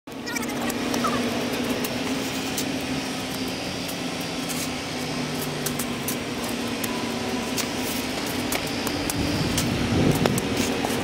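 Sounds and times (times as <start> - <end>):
motor droning: 0.1 - 11.0.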